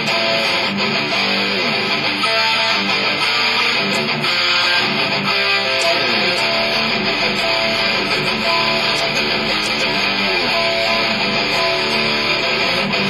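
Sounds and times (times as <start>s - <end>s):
amplified electric guitar: 0.0s - 13.0s.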